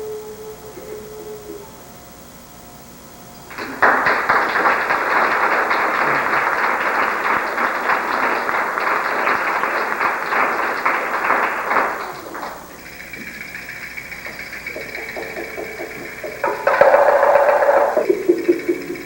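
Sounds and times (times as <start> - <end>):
audience applauding: 3.5 - 19.0.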